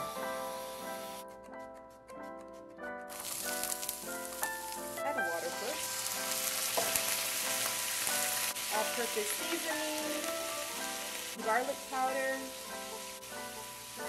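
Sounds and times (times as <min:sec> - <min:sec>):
onion sizzling in hot oil: 0:00.0 - 0:01.2, 0:03.1 - 0:14.0
background music: 0:00.0 - 0:14.0.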